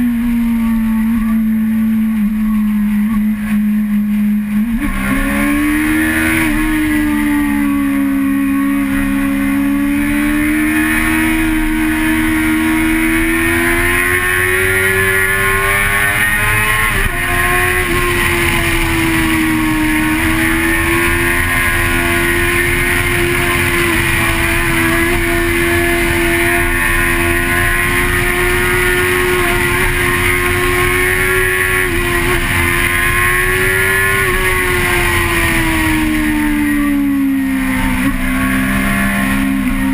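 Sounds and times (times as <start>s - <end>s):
engine revving high: 0.0s - 39.9s
road noise: 0.0s - 39.9s.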